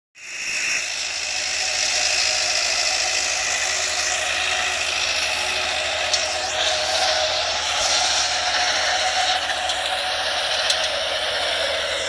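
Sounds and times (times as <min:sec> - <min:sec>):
tractor engine and rotor whir: 0:00.2 - 0:12.0.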